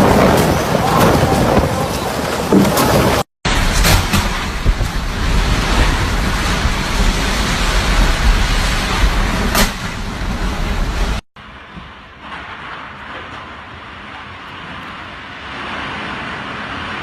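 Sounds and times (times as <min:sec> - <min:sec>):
wind buffeting microphone: 0:00.0 - 0:16.9
wind and heavy rain: 0:00.0 - 0:17.0.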